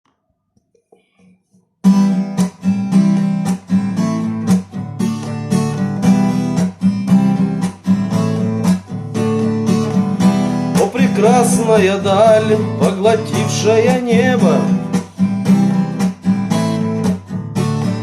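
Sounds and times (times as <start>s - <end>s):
acoustic guitar strumming: 1.8s - 18.0s.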